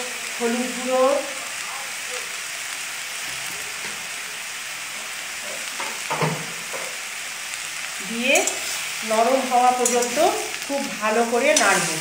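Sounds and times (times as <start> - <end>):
tomatoes sizzling in oil: 0.0 - 12.0.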